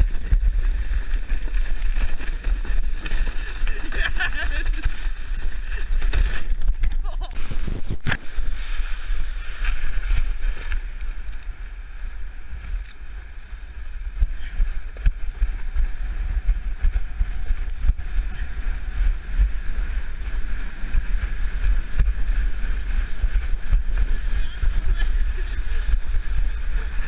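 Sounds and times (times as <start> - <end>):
plastic sled scraping over snow: 0.0 - 27.0
wind buffeting microphone: 0.0 - 27.0.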